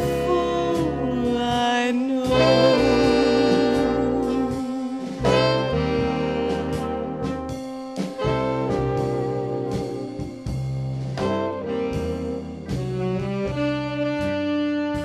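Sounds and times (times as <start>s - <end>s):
big band jazz music: 0.0s - 15.0s.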